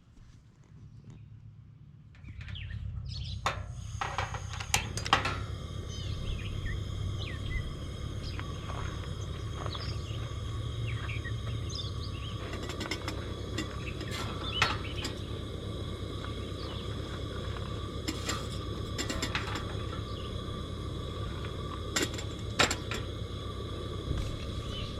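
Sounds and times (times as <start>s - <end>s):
steady low rumble: 0.0s - 24.9s.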